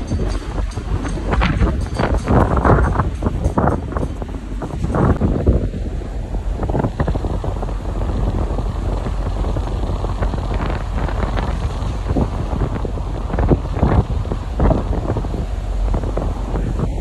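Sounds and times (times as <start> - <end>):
churning foaming sea: 0.0 - 17.0
wind buffeting microphone: 0.0 - 17.0.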